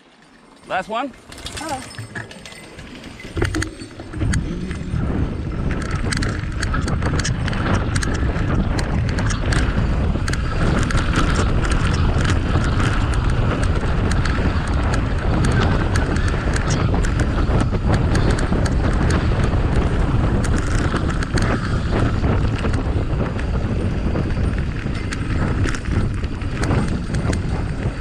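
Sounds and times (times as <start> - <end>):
bike rattling clicks: 0.0 - 28.0
bike tyres rumbling on dirt: 0.0 - 28.0
wind on microphone: 3.2 - 28.0.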